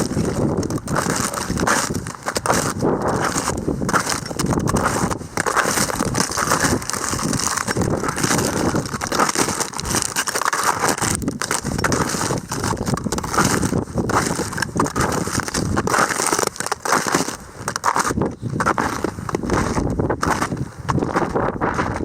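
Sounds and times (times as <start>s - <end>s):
strong wind buffeting microphone: 0.0s - 10.2s, 10.8s - 16.1s, 17.3s - 22.0s
snowshoe steps crunching snow: 0.0s - 22.0s.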